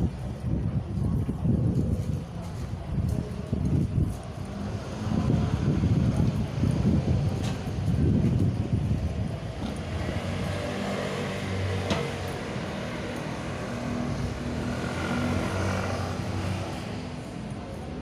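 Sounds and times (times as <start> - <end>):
motor scooter engines passing: 0.2 - 18.0.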